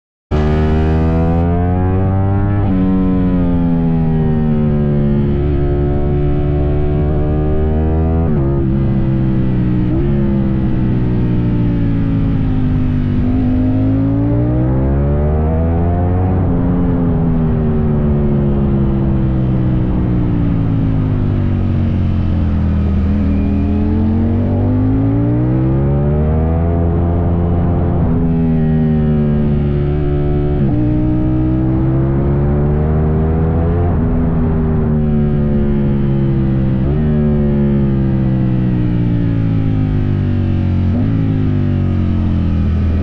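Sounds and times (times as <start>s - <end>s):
motorcycle engine revving: 0.3s - 43.0s.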